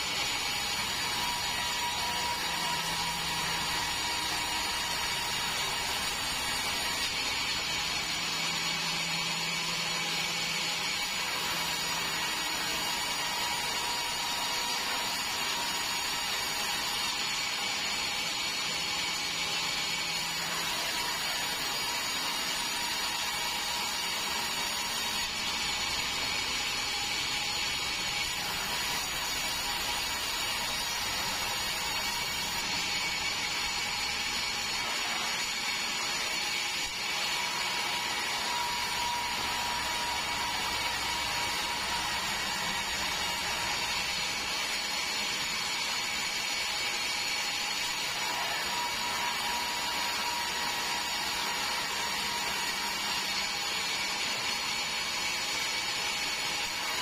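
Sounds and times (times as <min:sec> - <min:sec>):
bandsaw mill sawing wood: 0:00.0 - 0:57.0.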